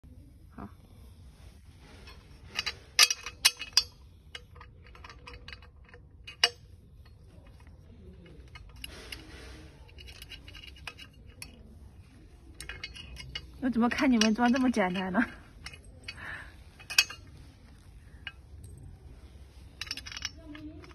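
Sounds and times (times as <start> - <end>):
soft rustling: 0.0 - 20.9
metal parts clinking and knocking: 1.8 - 20.9.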